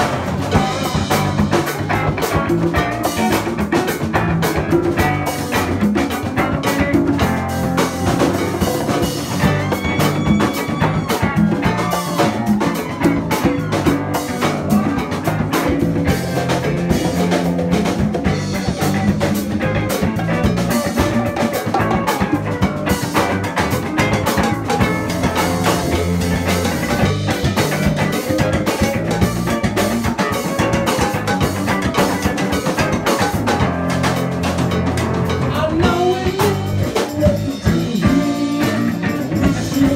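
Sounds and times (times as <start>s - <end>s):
drum kit: 0.0s - 39.9s
electric guitars: 0.0s - 39.9s
hand drums: 0.0s - 39.9s.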